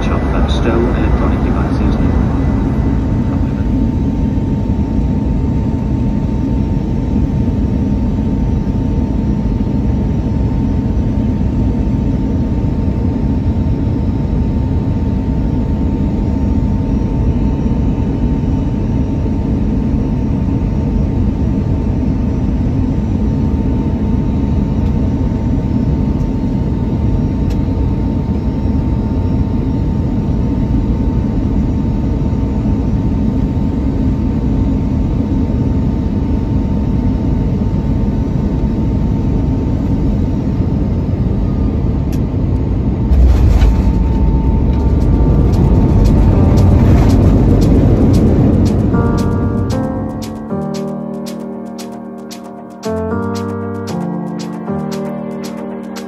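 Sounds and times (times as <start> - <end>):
jet engine and airflow rumble: 0.0 - 56.0
thin constant whine: 0.0 - 56.0.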